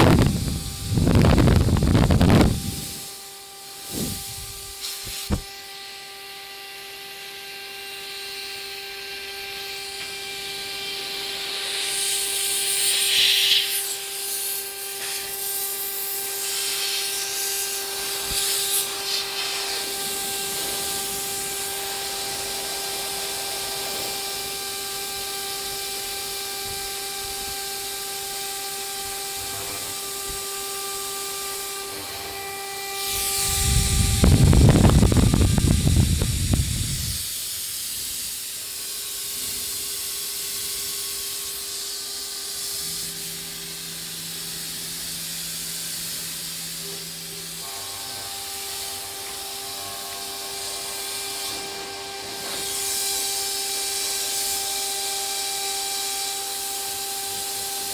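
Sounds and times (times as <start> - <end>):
cutting hiss: 0.0 - 5.5, 11.4 - 56.6
router spindle whine: 0.0 - 57.9.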